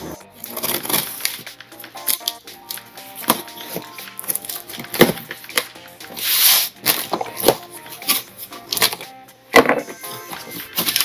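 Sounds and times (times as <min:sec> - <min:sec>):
soft background music: 0:00.0 - 0:11.0
packing tape tearing: 0:00.4 - 0:09.0, 0:10.4 - 0:11.0.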